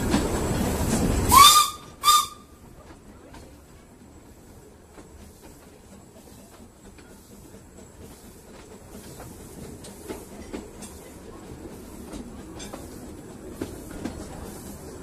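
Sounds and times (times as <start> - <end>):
train running rumble: 0.0 - 15.0
wheels clicking over rail joints: 0.0 - 15.0.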